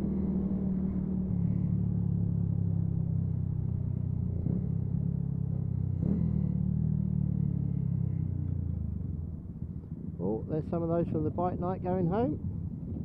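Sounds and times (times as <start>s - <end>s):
motorcycle engine cruising: 0.0s - 10.4s.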